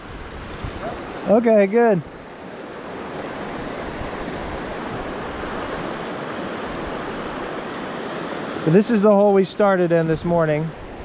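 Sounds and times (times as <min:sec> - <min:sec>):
river rushing over rocks: 0:00.1 - 0:10.4.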